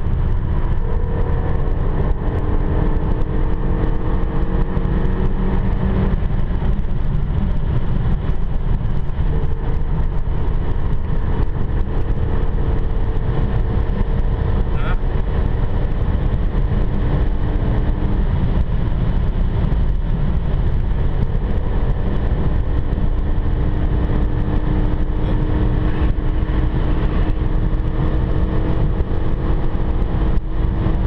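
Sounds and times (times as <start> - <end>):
car engine drone: 0.0 - 31.0
tyre and wind noise: 0.0 - 31.0.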